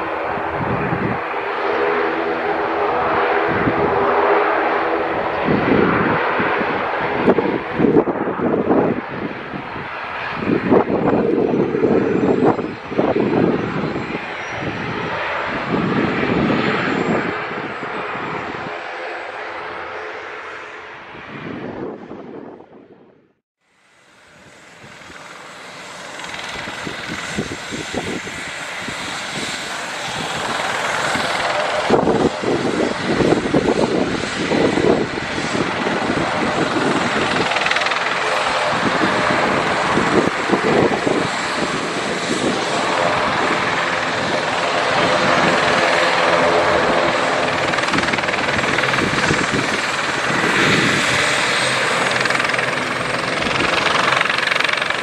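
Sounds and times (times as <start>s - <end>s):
aircraft turbine engines running: 0.0s - 55.0s.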